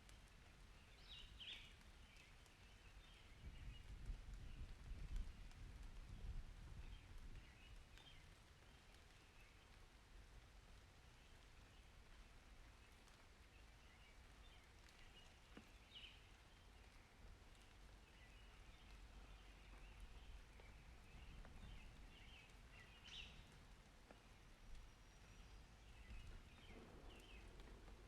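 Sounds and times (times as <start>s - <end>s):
rain hiss: 0.0s - 28.0s.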